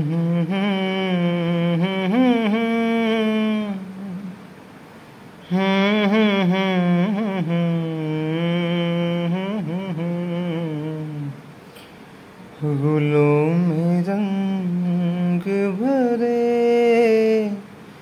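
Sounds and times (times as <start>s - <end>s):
solo voice chanting melody: 0.0s - 4.5s, 5.4s - 11.6s, 12.5s - 18.0s.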